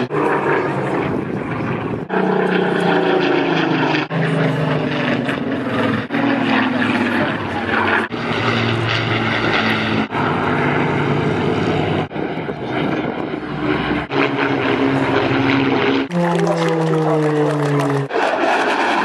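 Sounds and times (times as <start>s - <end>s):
propeller aircraft engines running: 0.0s - 19.0s.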